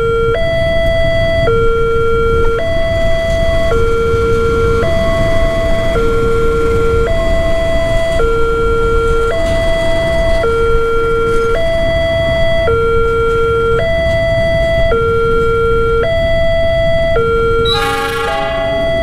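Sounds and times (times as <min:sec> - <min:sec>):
level crossing two-tone alarm: 0:00.0 - 0:19.0
train rumbling over crossing: 0:02.3 - 0:19.0.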